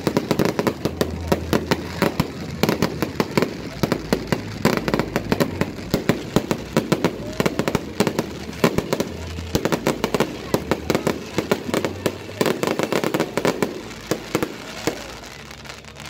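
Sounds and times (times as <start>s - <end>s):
fireworks bangs and pops: 0.0s - 16.0s.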